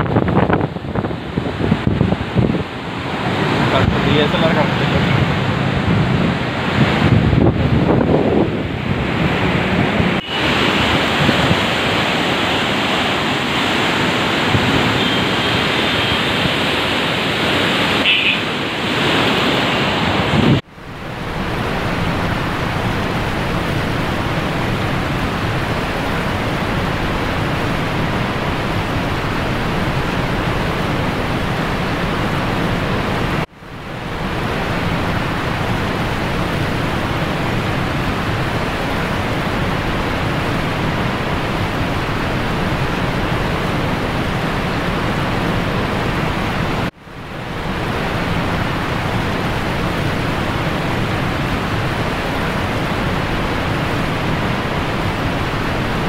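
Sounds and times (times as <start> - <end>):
flood water roaring through gates: 0.0 - 56.0
steady rushing noise: 0.0 - 56.0.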